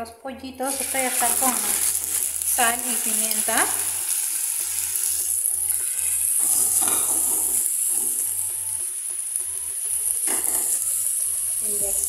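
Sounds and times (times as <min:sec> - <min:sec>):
chicken sizzling in frying pan: 0:00.7 - 0:12.0.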